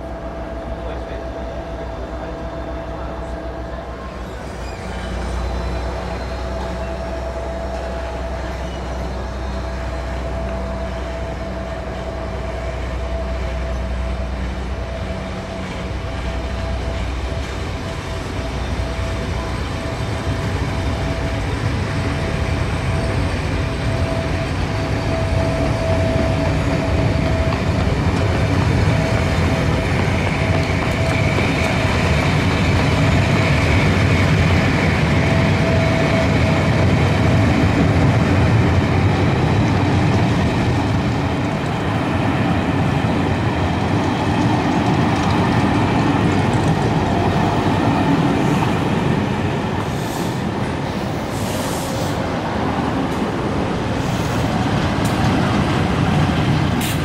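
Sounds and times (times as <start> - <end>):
train coaches rolling on rails: 0.0 - 57.0.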